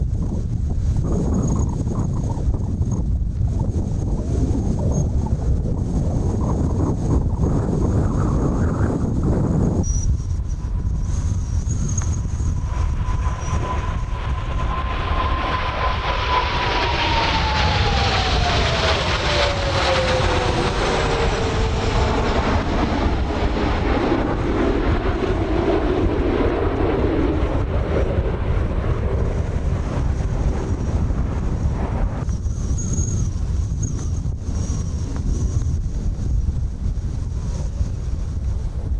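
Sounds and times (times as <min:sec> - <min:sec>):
jet passing overhead: 0:00.0 - 0:38.9
wind rumble on microphone: 0:00.0 - 0:38.9.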